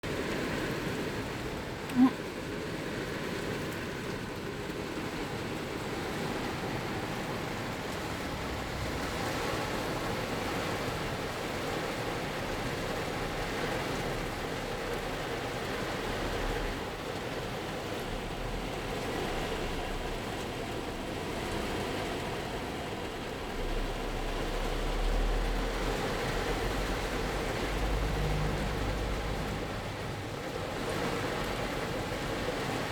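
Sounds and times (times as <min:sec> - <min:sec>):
rain on a car body: 0:00.0 - 0:32.9.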